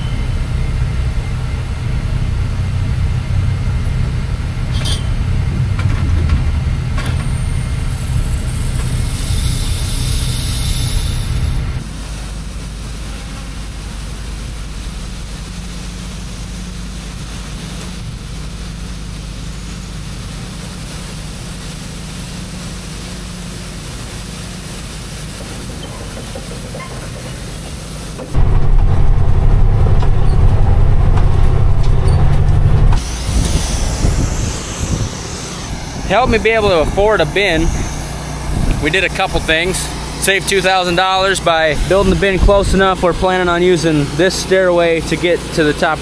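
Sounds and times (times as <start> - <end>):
low machine rumble: 0.0 - 46.0
truck engine drone: 0.0 - 46.0.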